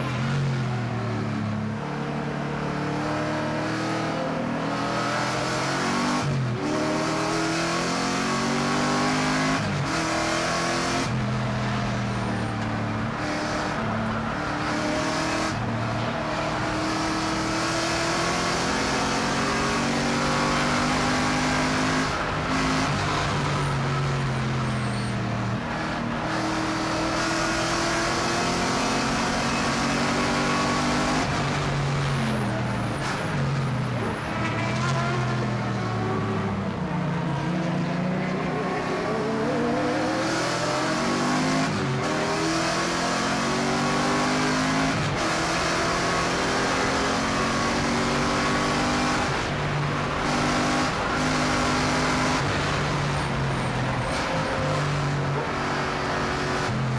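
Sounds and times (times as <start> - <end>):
race car engine revving: 0.0 - 56.9.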